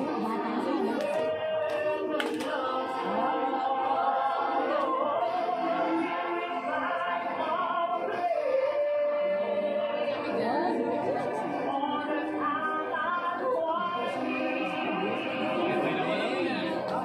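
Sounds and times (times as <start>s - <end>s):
voices singing slow melody: 0.0s - 17.0s.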